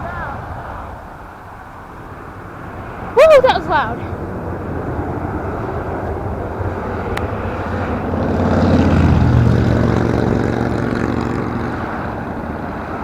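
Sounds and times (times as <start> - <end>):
jet airliner engines running: 0.0 - 13.0.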